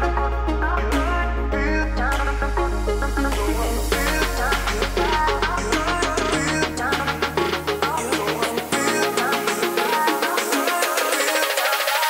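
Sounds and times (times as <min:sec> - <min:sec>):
melody over deep bass: 0:00.0 - 0:11.4.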